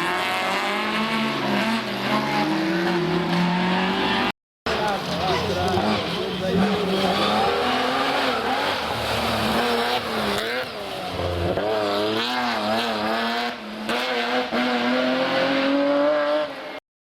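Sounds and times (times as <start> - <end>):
rally car engine revving: 0.0 - 16.8.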